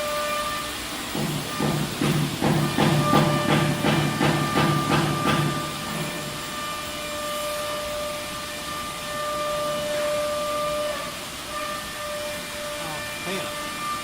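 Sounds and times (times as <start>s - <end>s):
router hiss and whine: 0.0s - 14.0s.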